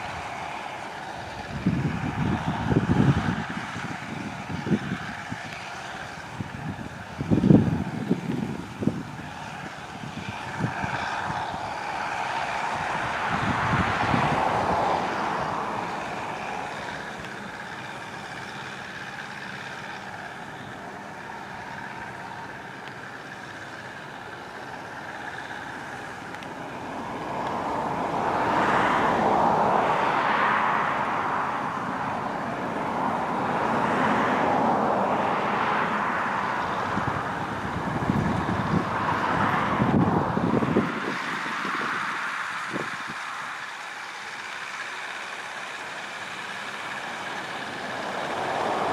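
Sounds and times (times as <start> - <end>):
combine harvester engine and machinery: 0.0 - 48.9.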